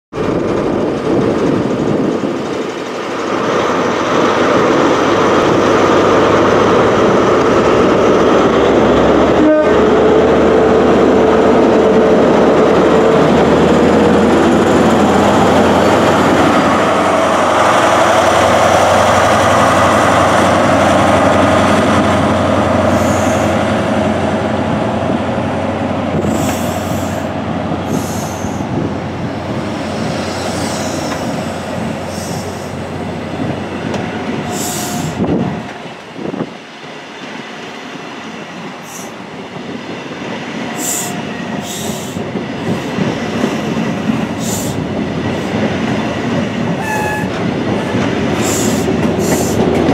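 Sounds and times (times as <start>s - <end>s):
diesel train engine passing: 0.1s - 49.9s
train coaches rumbling on rails: 0.1s - 49.9s.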